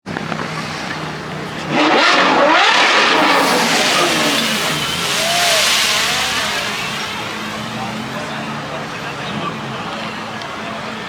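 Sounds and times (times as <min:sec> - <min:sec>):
car engine revving: 0:00.4 - 0:09.9.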